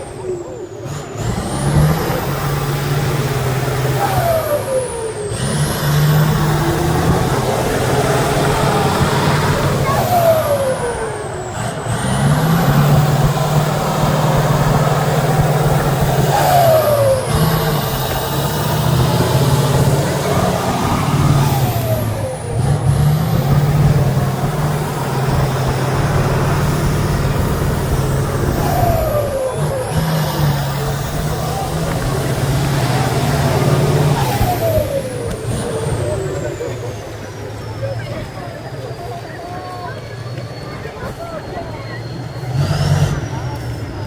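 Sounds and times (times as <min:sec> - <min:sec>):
diesel truck engine running: 0:00.0 - 0:44.0.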